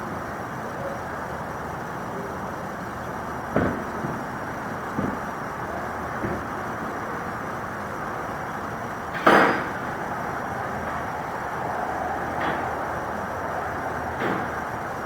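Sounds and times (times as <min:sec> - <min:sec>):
steady engine-like noise: 0:00.0 - 0:15.0.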